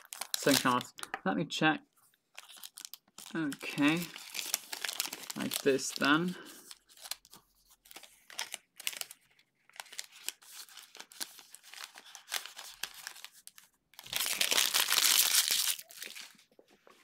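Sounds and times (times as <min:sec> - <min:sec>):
foil wrapper crinkling: 0:00.0 - 0:01.1, 0:02.3 - 0:16.4.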